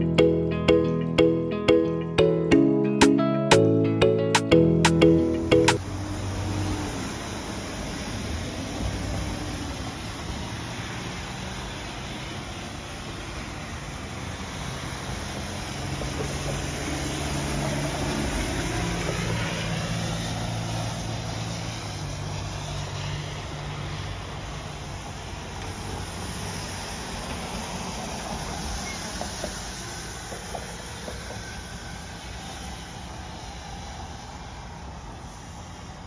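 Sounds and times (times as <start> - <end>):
road vehicle rushing hiss: 5.8 - 36.0.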